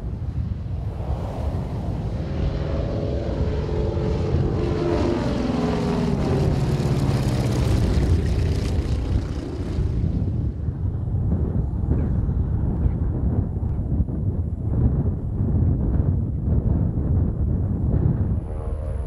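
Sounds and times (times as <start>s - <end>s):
propeller airplane flying overhead: 0.0s - 19.0s.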